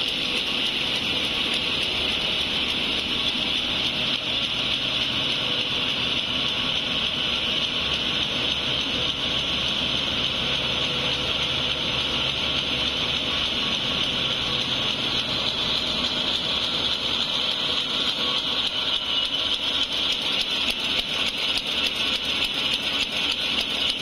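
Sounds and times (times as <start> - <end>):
machines whirring: 0.0 - 24.0.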